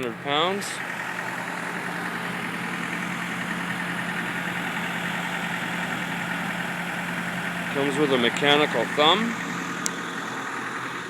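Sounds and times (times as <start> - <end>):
diesel excavator idling: 0.0 - 11.0.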